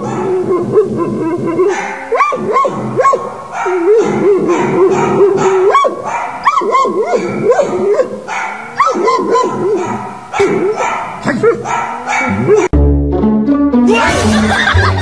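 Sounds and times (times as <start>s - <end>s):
dog whining and yowling: 0.0s - 12.7s.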